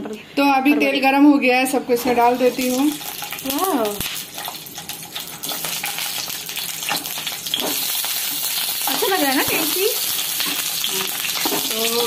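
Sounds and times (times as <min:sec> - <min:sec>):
peppers sizzling in hot oil: 0:02.0 - 0:12.0.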